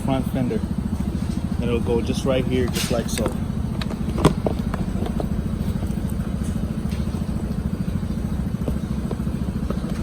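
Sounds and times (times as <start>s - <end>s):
low mechanical rumble: 0.0s - 10.0s.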